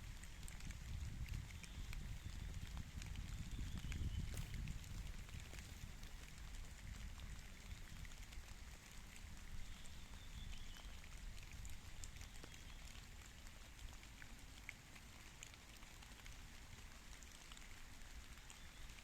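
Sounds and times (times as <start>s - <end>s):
light rain falling: 0.0s - 19.0s
low steady rumble: 0.0s - 19.0s
raindrops ticking: 0.0s - 19.0s.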